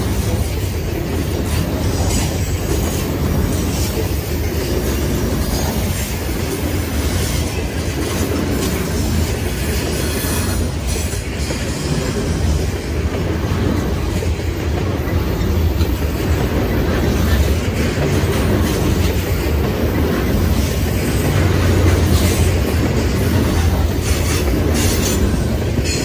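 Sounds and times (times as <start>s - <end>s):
freight train wheels rumbling: 0.0s - 26.0s
wheels clicking on rail joints: 0.0s - 26.0s.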